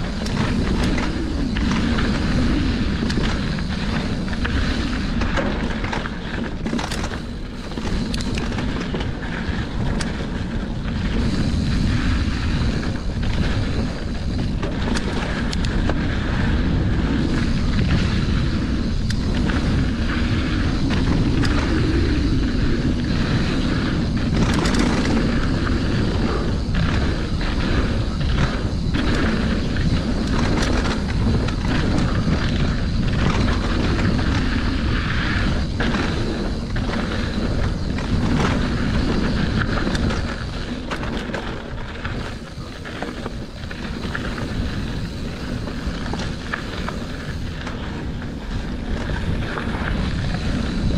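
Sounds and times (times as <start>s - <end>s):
bike clicks and rattles: 0.0s - 50.9s
wind buffeting microphone: 0.0s - 50.9s.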